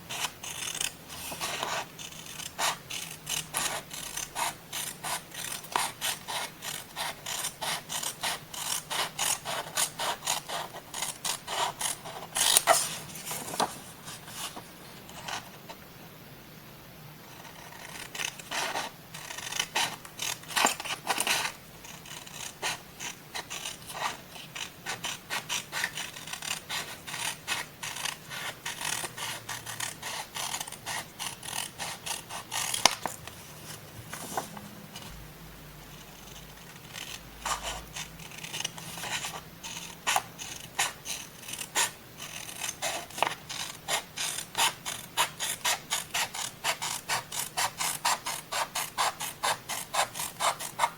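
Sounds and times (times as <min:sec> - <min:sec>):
scissors cutting paper: 0:00.1 - 0:14.6, 0:17.5 - 0:35.2, 0:36.0 - 0:50.9.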